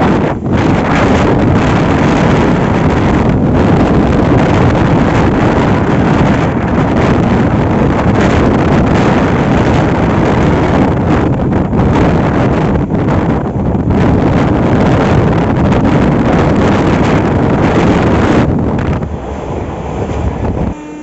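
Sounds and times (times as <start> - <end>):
moving passenger train: 0.0 - 21.0
wind rushing over microphone: 0.0 - 21.0.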